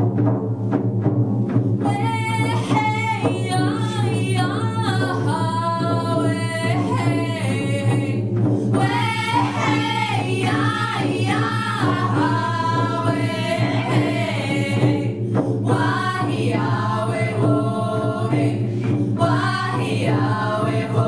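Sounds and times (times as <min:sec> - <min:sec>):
frame hand drums: 0:00.0 - 0:21.0
women singing together: 0:01.8 - 0:21.0.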